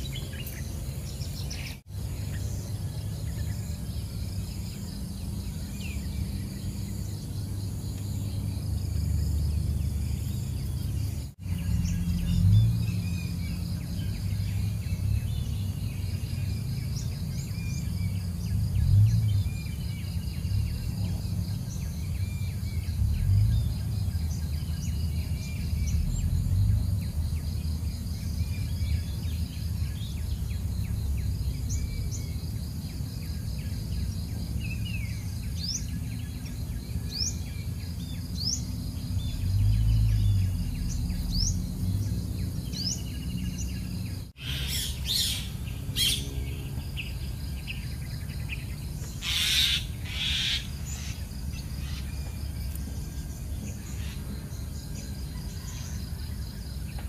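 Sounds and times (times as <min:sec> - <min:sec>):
low steady rumble: 0:00.0 - 0:49.2, 0:49.8 - 0:57.0
bird chirps: 0:00.0 - 0:57.0
insects trilling: 0:00.0 - 0:57.0.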